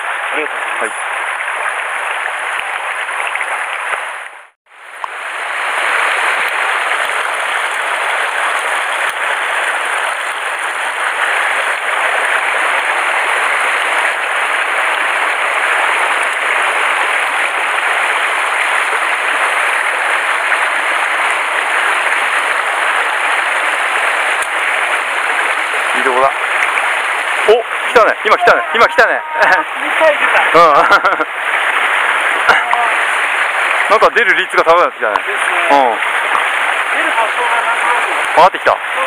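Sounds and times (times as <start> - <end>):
stream running over rocks: 0.0 - 39.0.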